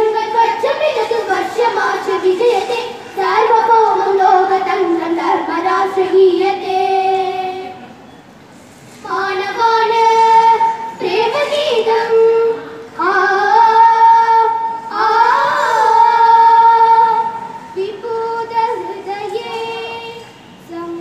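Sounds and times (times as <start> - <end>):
child singing: 0.0 - 7.9, 9.0 - 21.0.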